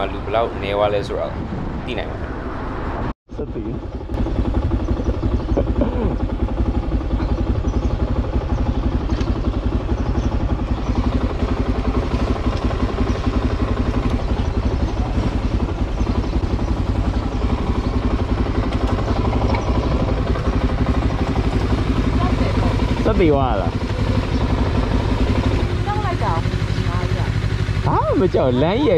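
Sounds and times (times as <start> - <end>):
motorcycle engine running: 3.4 - 28.9.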